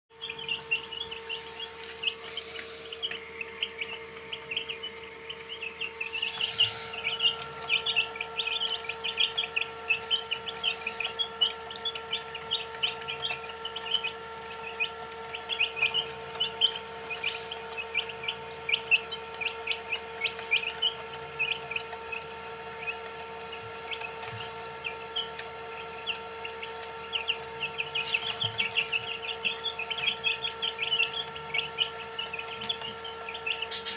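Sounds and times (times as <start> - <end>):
chicks peeping: 0.1 - 33.9
steady hum: 0.1 - 33.9.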